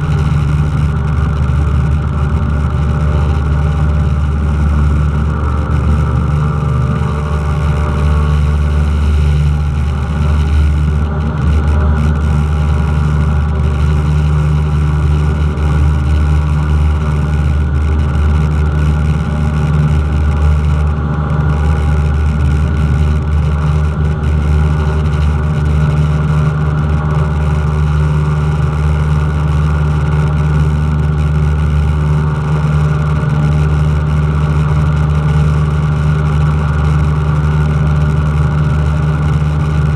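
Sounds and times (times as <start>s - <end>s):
small plane engine droning: 0.0s - 39.9s.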